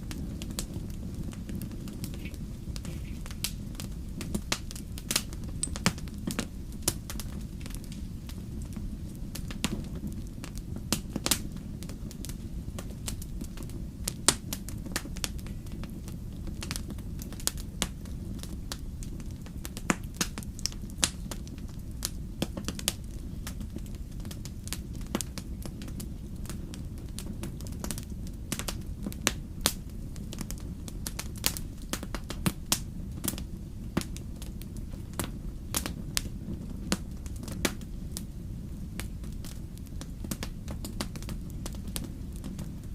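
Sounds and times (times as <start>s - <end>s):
firewood crackling and popping: 0.0s - 42.9s
steady low rumble: 0.0s - 42.9s.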